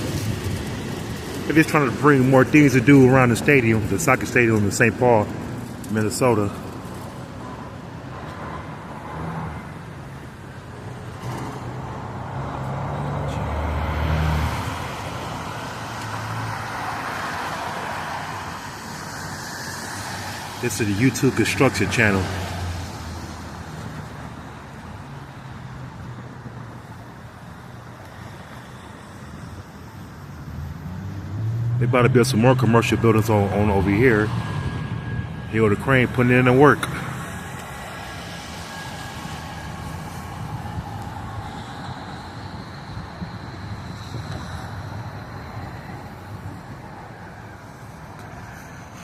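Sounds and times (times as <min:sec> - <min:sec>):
road traffic noise: 0:00.0 - 0:49.0
vehicle engine hum: 0:00.0 - 0:49.0.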